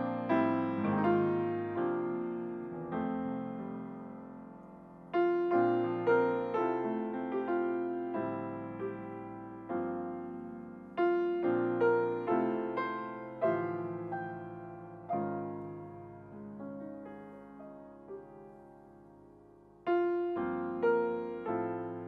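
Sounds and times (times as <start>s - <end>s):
slow jazz piano chords: 0.0s - 22.0s.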